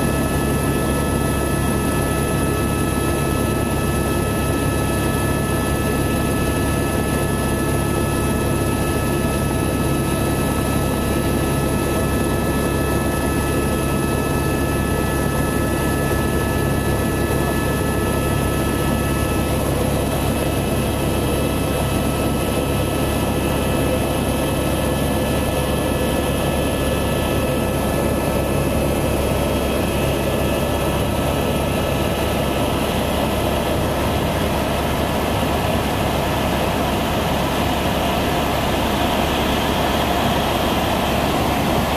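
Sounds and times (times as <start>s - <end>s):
helicopter engine whine: 0.0s - 41.9s
helicopter rotor pulsing: 0.0s - 41.9s.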